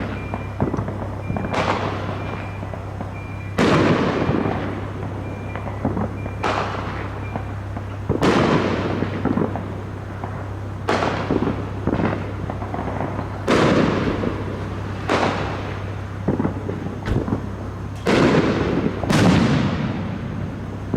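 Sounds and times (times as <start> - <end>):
fireworks banging: 0.0 - 20.9
steady low hum: 0.0 - 20.9.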